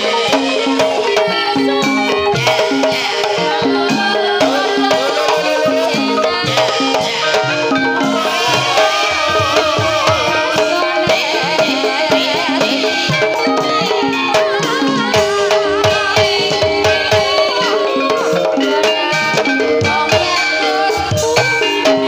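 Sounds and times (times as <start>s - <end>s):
hand drums rhythm: 0.0s - 22.0s
ringing pitched percussion: 0.0s - 22.0s
wavering melody line: 0.0s - 22.0s.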